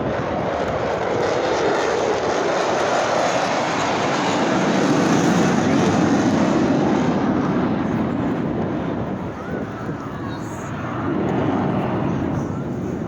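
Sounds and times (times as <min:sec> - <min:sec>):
airplane flying overhead: 0:00.0 - 0:13.0.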